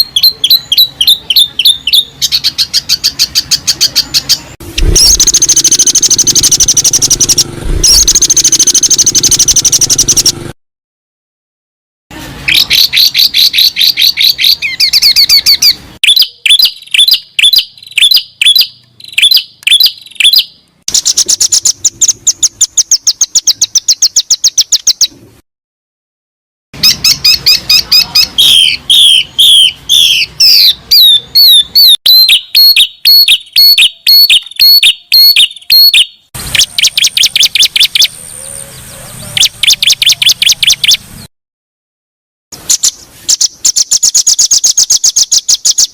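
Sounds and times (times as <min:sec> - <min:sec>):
songbird trills and chirps: 0:00.0 - 0:10.2, 0:12.5 - 0:25.1, 0:26.8 - 0:41.0, 0:42.7 - 0:45.9.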